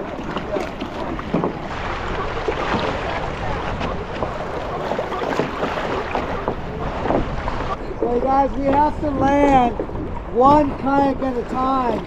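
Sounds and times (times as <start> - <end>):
water splashing around kayak: 0.0 - 12.0
wind buffeting microphone: 0.0 - 12.0.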